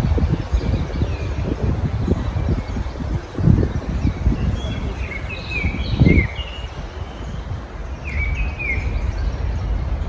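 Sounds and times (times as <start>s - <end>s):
low outdoor rumble: 0.0s - 10.0s
songbirds chirping: 0.0s - 10.0s.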